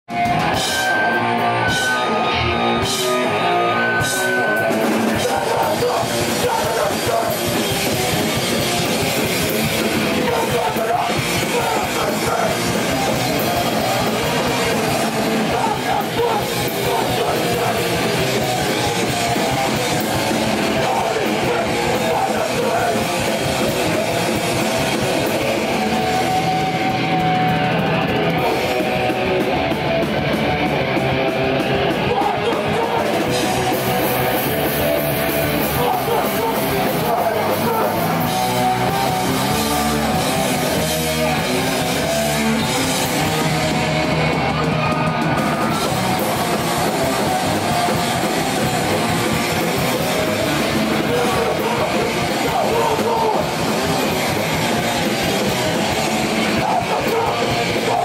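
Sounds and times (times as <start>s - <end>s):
punk band playing live: 0.0s - 58.0s.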